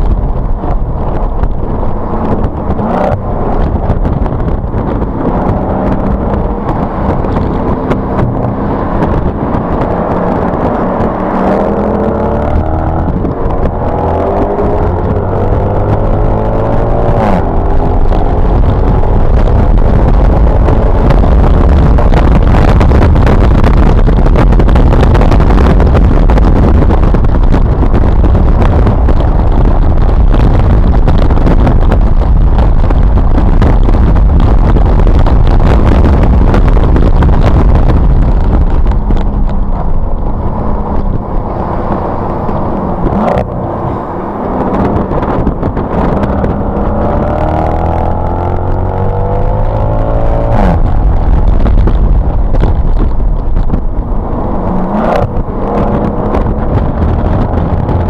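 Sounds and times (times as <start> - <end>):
car engine: 0.0 - 58.0
wind and road noise: 0.0 - 58.0.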